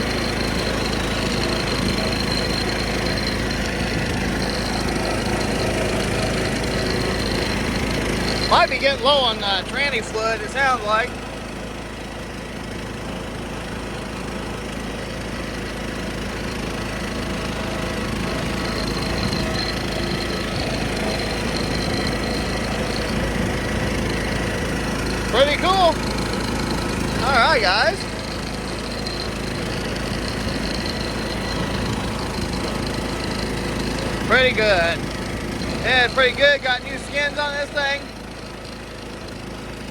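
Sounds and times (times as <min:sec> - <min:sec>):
faint steady whine: 0:00.0 - 0:11.3, 0:17.1 - 0:39.9
lawn tractor running: 0:00.0 - 0:39.9.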